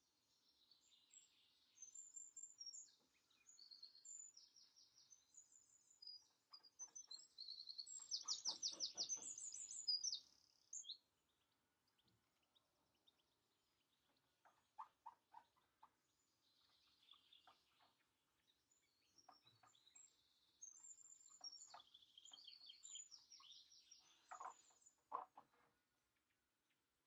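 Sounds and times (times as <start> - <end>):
birds chirping and twittering: 0.2 - 26.8.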